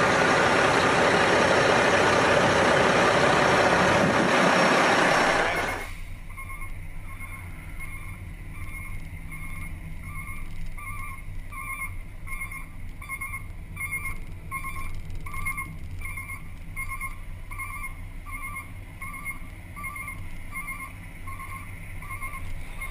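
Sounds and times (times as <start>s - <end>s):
diesel engine running: 0.0s - 22.9s
truck warning beeper: 4.6s - 22.9s.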